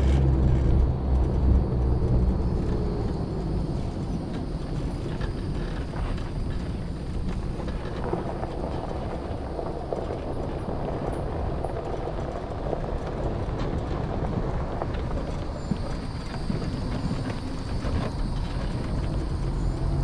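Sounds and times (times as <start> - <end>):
rolling road noise: 0.0 - 20.0
wind buffeting microphone: 0.0 - 20.0.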